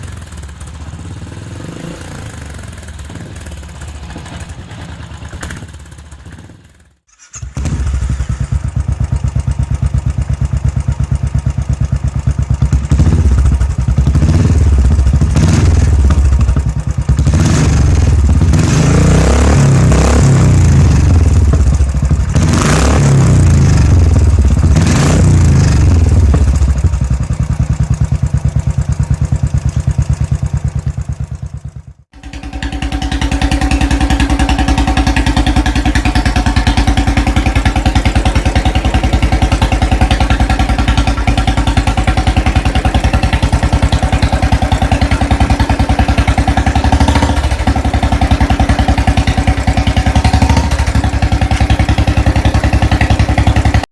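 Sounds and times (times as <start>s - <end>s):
motorcycle engine blipping and idling: 0.0s - 53.9s
motorcycle idling with even thump: 0.0s - 53.9s.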